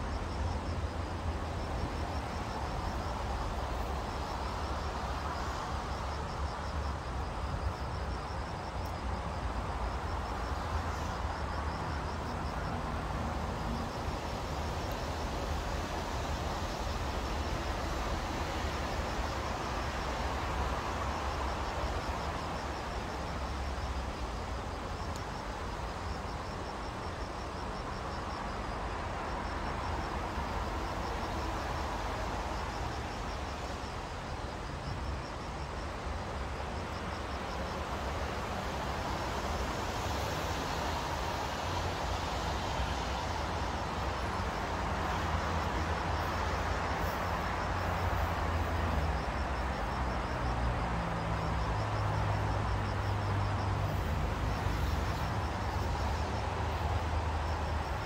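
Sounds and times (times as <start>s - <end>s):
distant city traffic rumble: 0.0s - 58.0s.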